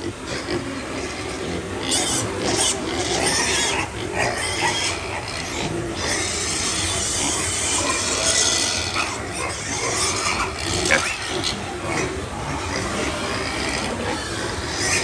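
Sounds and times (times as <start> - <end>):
piglets squealing: 0.0 - 15.0.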